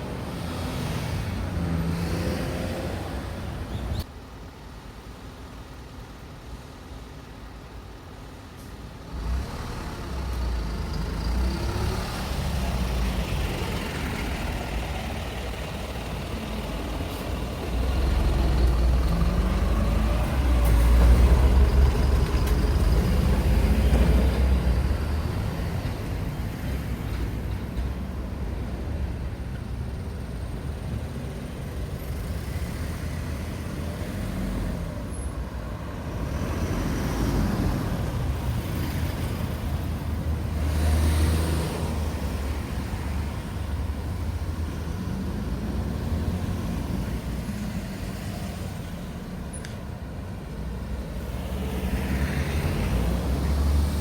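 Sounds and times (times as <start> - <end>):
heavy vehicle engines rumbling: 0.0 - 54.0.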